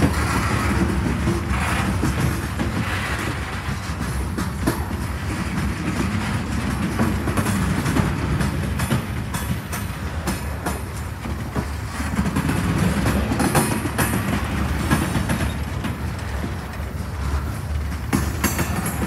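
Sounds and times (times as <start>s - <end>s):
freight train wheels rumbling: 0.0s - 19.0s
train wheels clicking and clanking: 0.0s - 19.0s.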